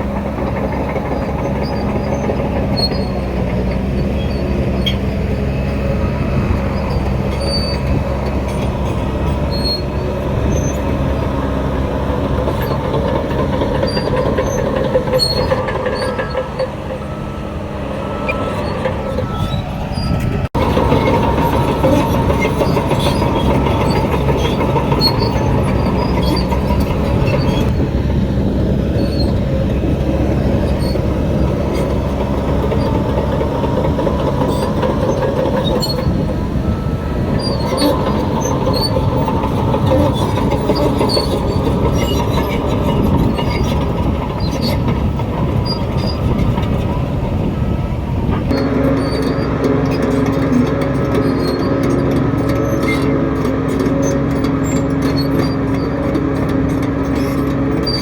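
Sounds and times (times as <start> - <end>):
bulldozer engine under load: 0.0 - 58.0
steel tracks clattering and squealing: 0.0 - 58.0.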